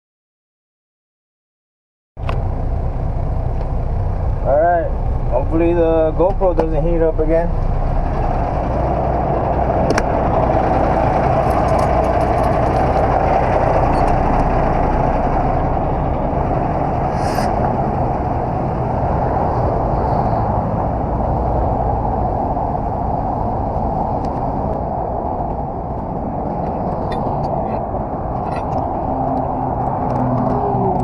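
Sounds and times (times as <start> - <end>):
truck engine running: 2.2 - 31.0.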